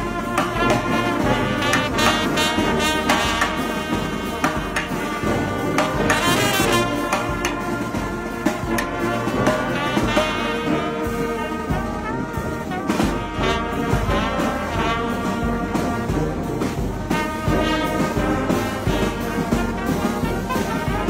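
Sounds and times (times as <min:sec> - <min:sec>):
bass drum beats: 0:00.0 - 0:21.0
trumpets holding notes: 0:00.0 - 0:21.0.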